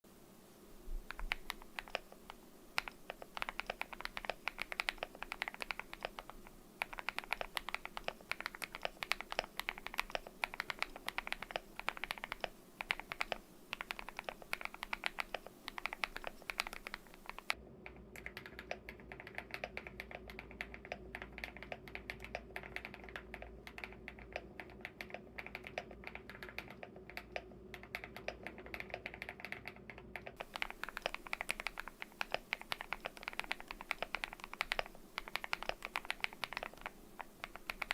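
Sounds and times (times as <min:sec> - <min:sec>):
typing on mechanical keyboard: 0:01.1 - 0:37.9.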